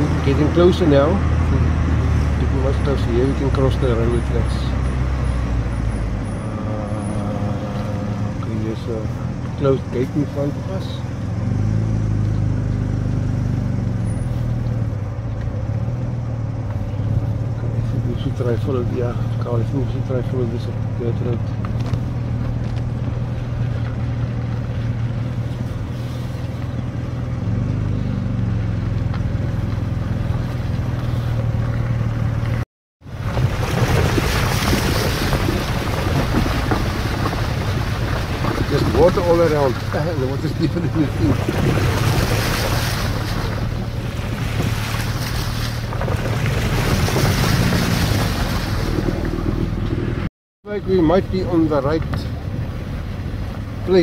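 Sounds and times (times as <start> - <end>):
road noise on dirt road: 0.0 - 54.0
tyres splashing through puddles: 0.0 - 54.0
vehicle engine droning: 0.0 - 54.0.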